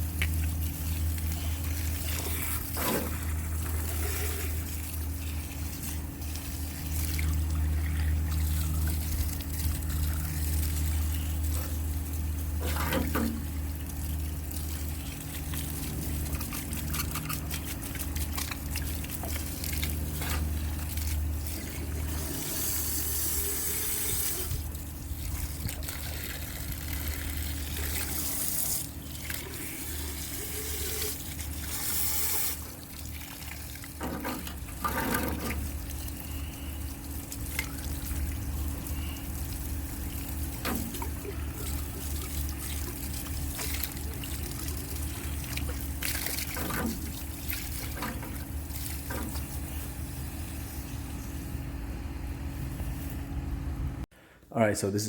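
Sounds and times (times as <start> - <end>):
water running at a sink: 0.0 - 50.2.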